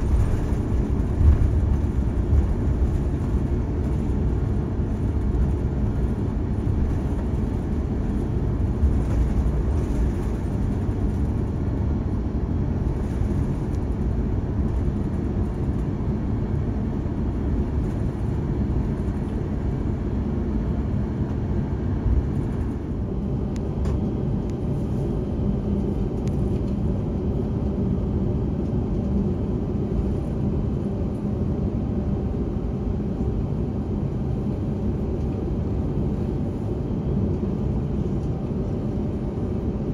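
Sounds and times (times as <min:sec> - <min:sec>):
jet aircraft rumble: 0:00.0 - 0:39.9.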